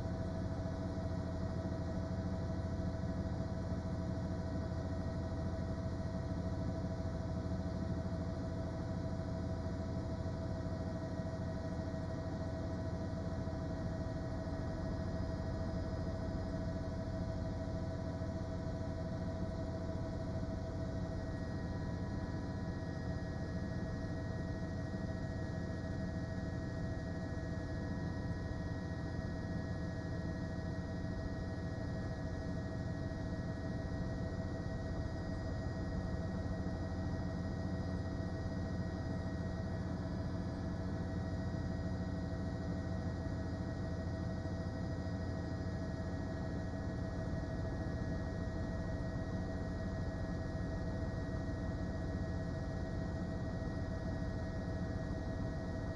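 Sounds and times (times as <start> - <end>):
steady hum with held tones: 0.0 - 55.9.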